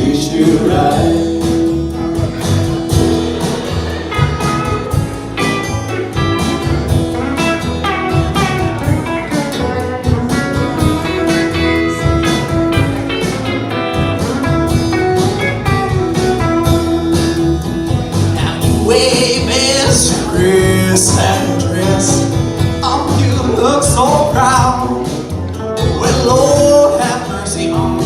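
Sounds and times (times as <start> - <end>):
bass: 0.0 - 28.0
lead guitar: 0.0 - 28.0
drum beat: 0.2 - 28.0.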